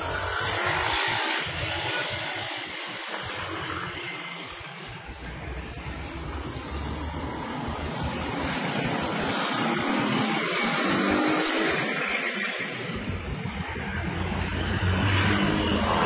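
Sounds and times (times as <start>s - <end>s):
cars passing: 0.0s - 16.0s
motorcycles passing: 0.0s - 16.0s.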